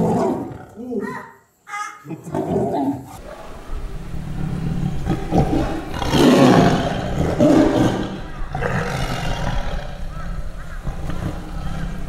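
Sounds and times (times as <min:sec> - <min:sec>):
lions roaring: 0:00.0 - 0:00.8, 0:02.3 - 0:12.0.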